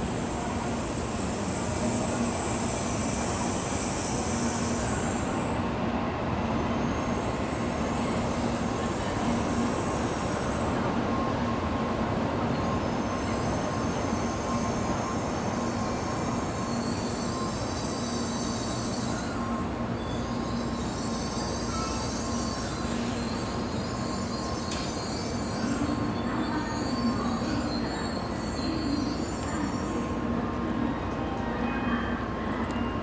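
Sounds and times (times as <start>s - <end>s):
train rumble and hum: 0.0s - 33.0s.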